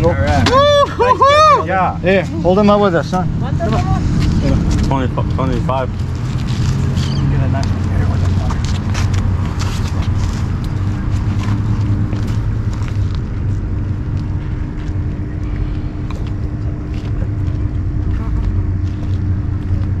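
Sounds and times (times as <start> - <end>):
motor running: 0.0 - 20.0.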